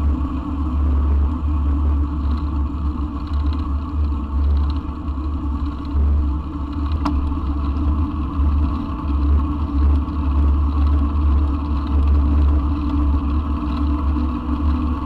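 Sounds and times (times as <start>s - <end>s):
tyres rumbling on rough road: 0.0s - 15.0s.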